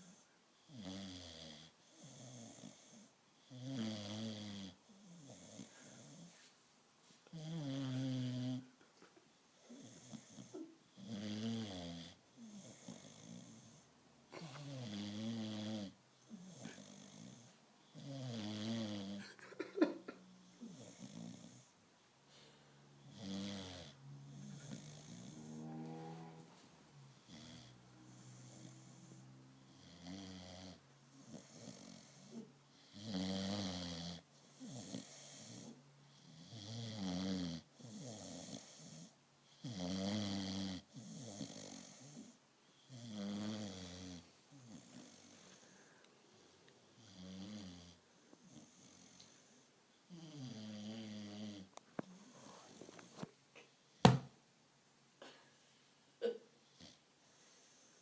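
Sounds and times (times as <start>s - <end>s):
dog snoring: 0.0s - 6.4s, 7.3s - 8.7s, 9.5s - 19.4s, 20.4s - 21.7s, 23.0s - 45.7s, 47.0s - 53.3s, 56.6s - 57.9s.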